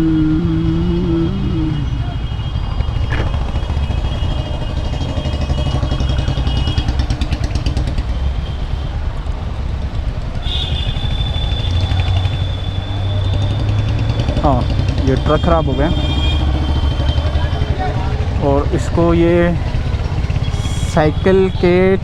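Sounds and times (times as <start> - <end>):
low horn tone from traffic: 0.0 - 9.3, 10.4 - 22.0
motorcycle engine running: 0.0 - 21.8.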